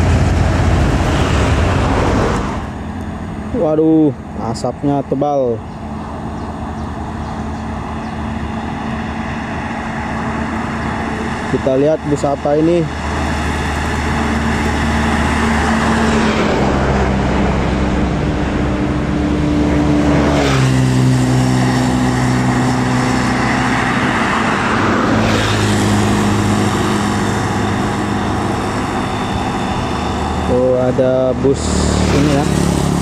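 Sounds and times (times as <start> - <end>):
heavy diesel vehicles passing: 0.0 - 33.0.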